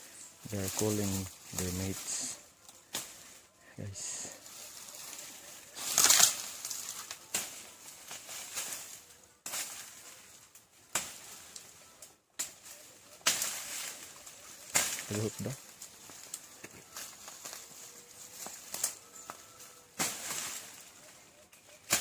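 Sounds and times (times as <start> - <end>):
rustling in dry vegetation: 0.0 - 22.0.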